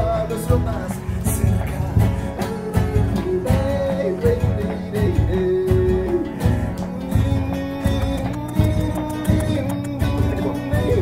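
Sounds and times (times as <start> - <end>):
background music with steady beat: 0.5 - 11.0.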